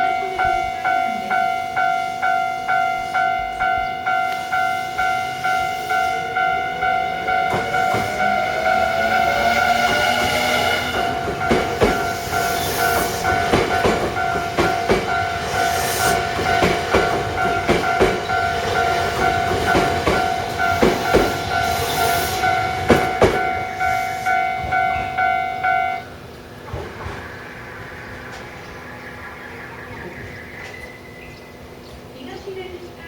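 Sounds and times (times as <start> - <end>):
wheels clacking over rail joints: 0.0 - 29.0
crossing warning bell ringing: 0.0 - 33.0.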